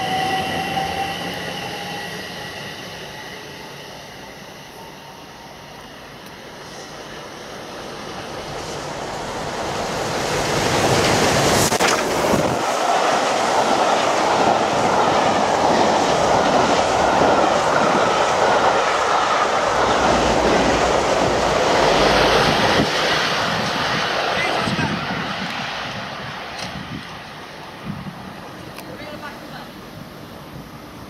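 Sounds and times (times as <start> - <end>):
diesel locomotive rumble: 0.0 - 31.0
train coaches rushing past: 0.0 - 31.0.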